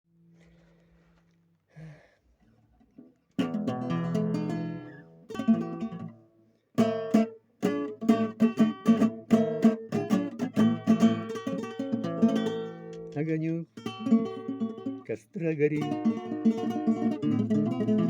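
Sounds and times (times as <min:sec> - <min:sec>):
acoustic guitar strumming: 0:03.0 - 0:18.0.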